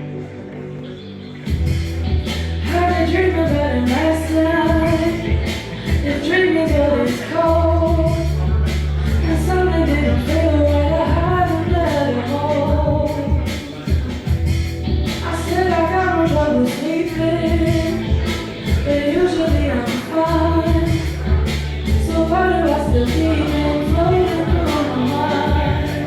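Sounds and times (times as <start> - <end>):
bass line: 0.0 - 26.0
woman singing: 0.8 - 14.4, 15.1 - 26.0
drum beats: 1.5 - 26.0.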